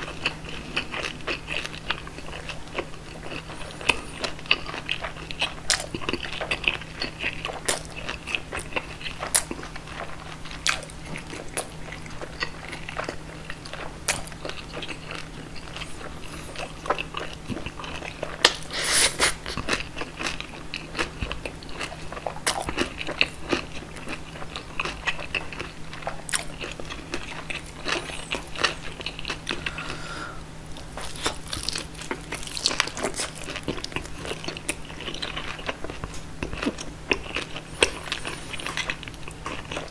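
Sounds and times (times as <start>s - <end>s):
close-up chewing and biting: 0.0s - 39.9s.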